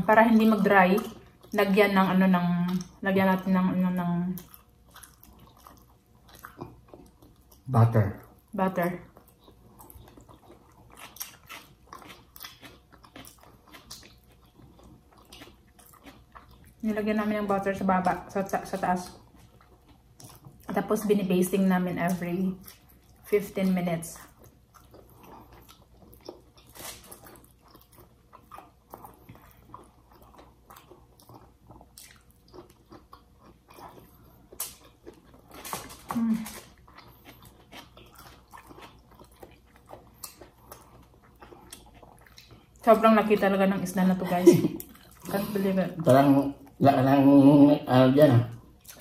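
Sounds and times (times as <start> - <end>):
faint chewing and lip-smacking: 0.0 - 47.2, 48.5 - 49.0.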